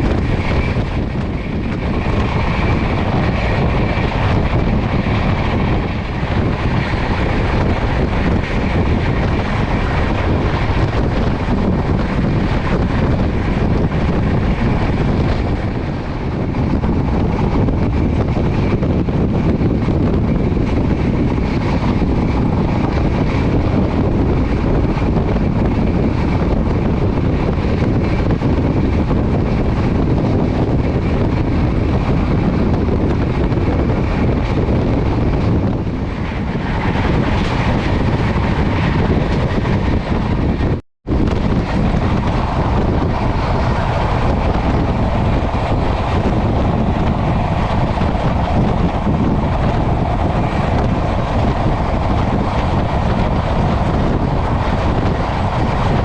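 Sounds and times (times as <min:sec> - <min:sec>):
passenger train running fast: 0:00.0 - 0:56.0.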